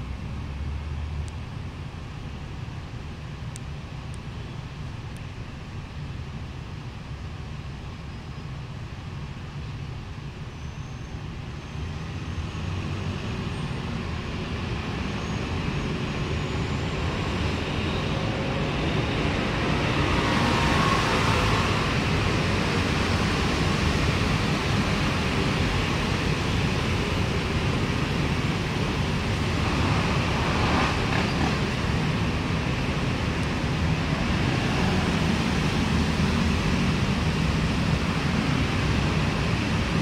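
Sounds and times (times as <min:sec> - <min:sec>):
road traffic rumbling: 0:00.0 - 0:40.0.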